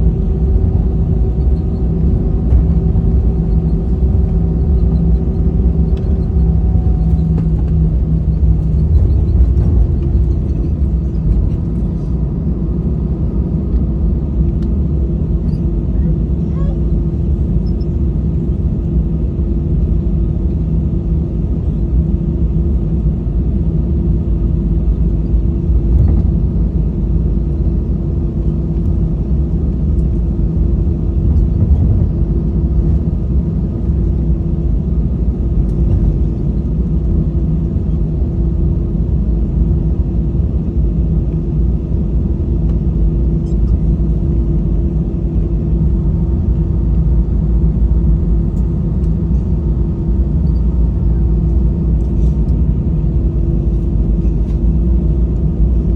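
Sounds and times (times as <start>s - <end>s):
airplane cabin engine hum: 0.0s - 55.9s.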